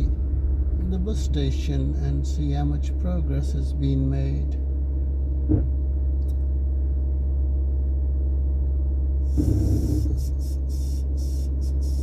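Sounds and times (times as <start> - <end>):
car engine drone: 0.0 - 12.0
road noise inside car: 0.0 - 12.0.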